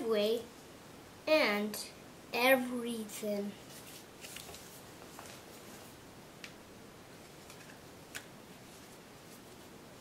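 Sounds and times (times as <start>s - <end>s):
quiet room hiss: 0.0s - 10.0s.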